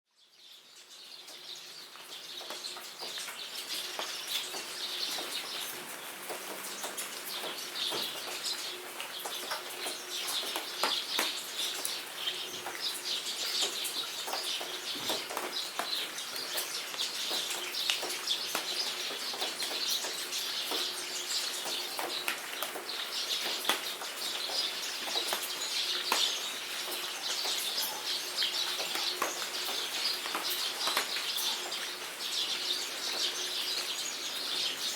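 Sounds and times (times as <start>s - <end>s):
birds chirping: 0.2s - 34.9s
rain drops ticking: 0.4s - 34.9s.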